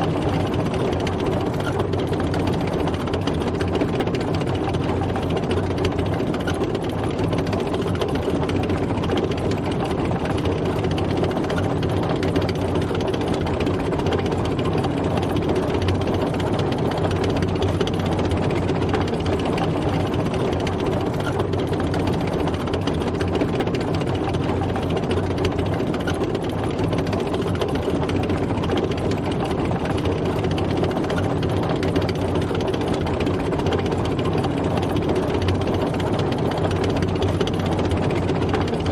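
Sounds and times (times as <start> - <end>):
dense mechanical rattle: 0.0 - 38.9
tank engine running: 0.0 - 38.9.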